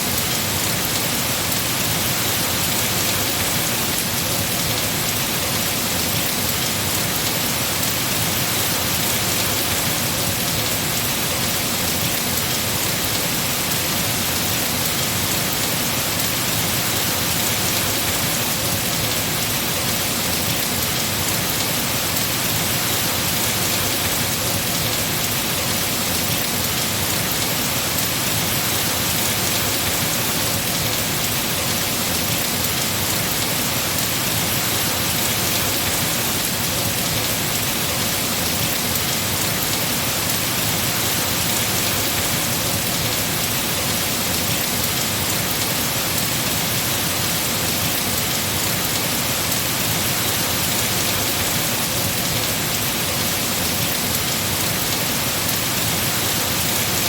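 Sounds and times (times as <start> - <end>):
heavy rain on trees: 0.0 - 57.0.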